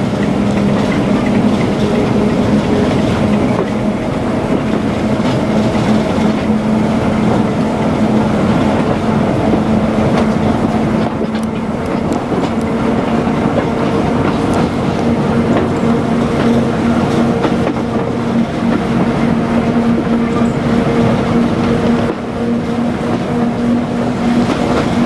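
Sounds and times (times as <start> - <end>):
diesel train engine drone: 0.0 - 25.0
train wheels on rail: 0.0 - 25.0.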